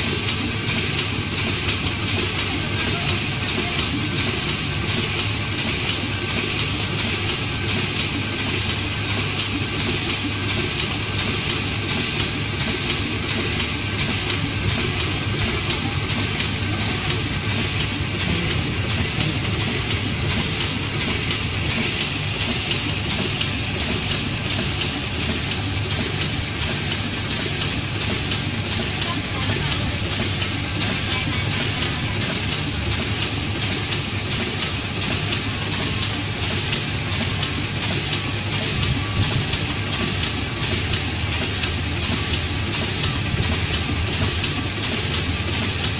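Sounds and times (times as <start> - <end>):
low machine hum: 0.0 - 45.9
printing press clattering: 0.0 - 45.9.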